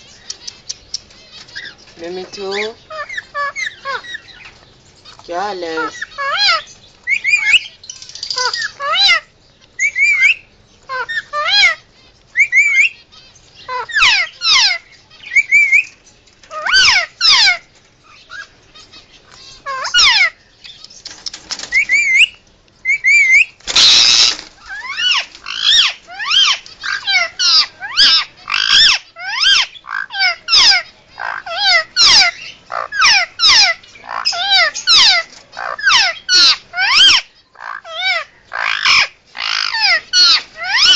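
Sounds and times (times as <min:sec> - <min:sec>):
parakeet squawking: 0:00.1 - 0:04.4, 0:05.0 - 0:15.9, 0:16.5 - 0:20.9, 0:21.6 - 0:40.9.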